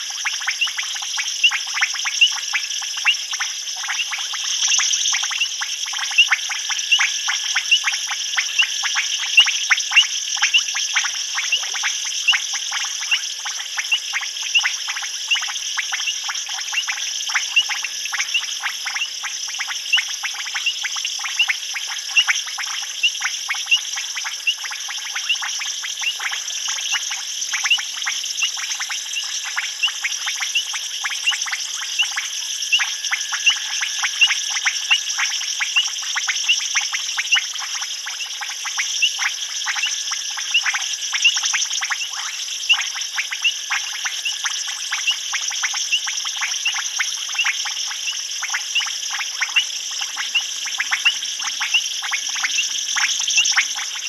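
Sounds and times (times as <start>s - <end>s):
frogs calling: 0.0s - 54.0s
insects droning: 0.0s - 54.0s.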